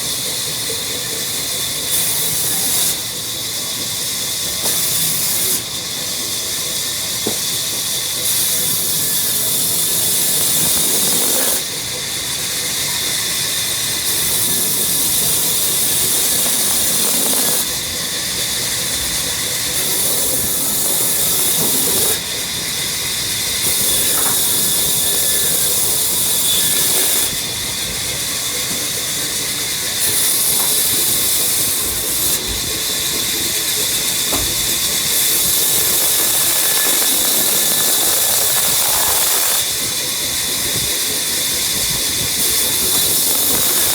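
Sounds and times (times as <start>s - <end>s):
woodworking machine whining: 0.0s - 43.9s.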